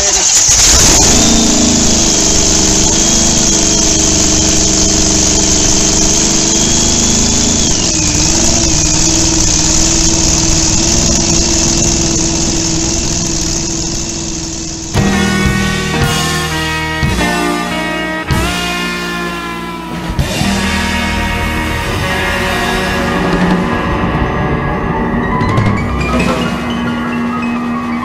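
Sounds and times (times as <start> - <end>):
motorcycle engine idling: 0.0 - 24.1
rock music: 0.0 - 28.0.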